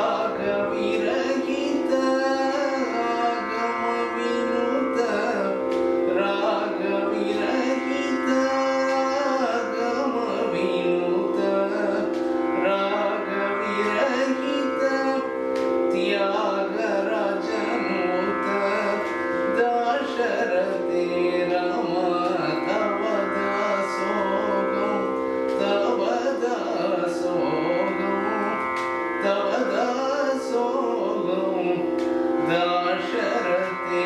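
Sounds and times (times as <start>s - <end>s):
man singing classical melody: 0.0s - 34.0s
steady drone: 0.0s - 34.0s.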